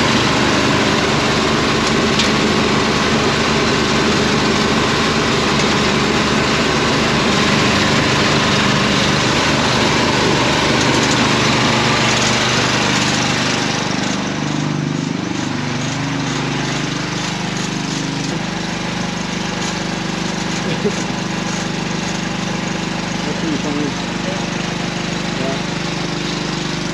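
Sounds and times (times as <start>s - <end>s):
air compressor running: 0.0s - 26.9s.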